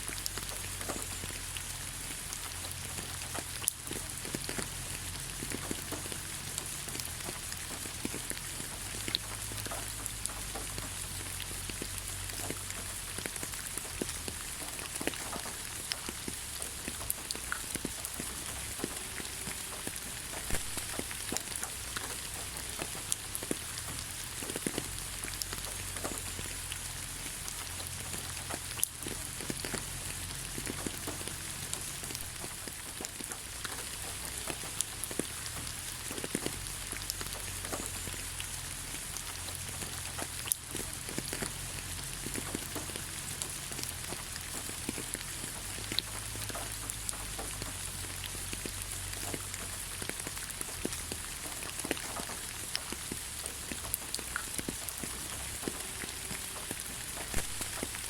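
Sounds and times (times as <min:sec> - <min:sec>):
rain falling on ground: 0:00.0 - 0:58.0.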